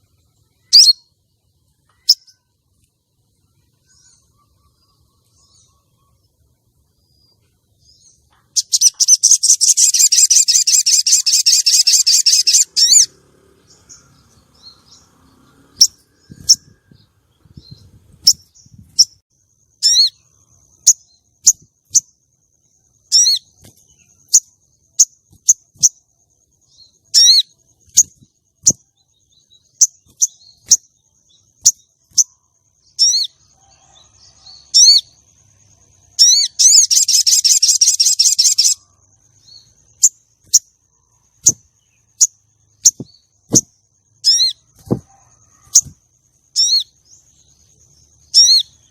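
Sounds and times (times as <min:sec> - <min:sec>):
bird twittering: 0:00.0 - 0:01.1, 0:07.0 - 0:19.2, 0:19.8 - 0:22.2, 0:23.0 - 0:26.0, 0:26.6 - 0:35.2, 0:36.1 - 0:48.9
sharp high bird chirps: 0:00.0 - 0:02.6, 0:03.4 - 0:48.9.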